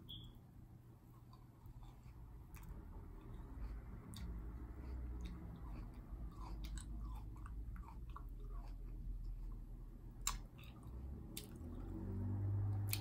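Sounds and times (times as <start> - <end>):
person chewing grapes: 1.0 - 13.0.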